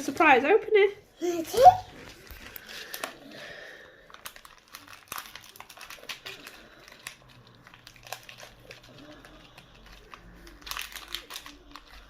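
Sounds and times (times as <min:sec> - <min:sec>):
plastic packaging crinkling: 0:01.5 - 0:12.0.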